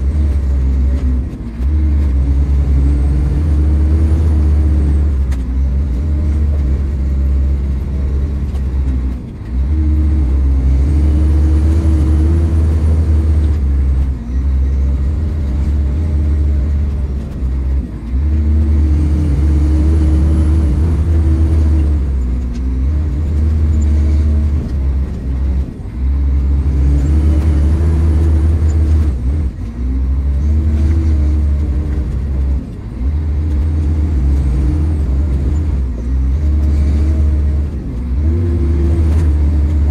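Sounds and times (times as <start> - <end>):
snow groomer diesel engine revving: 0.0 - 39.9.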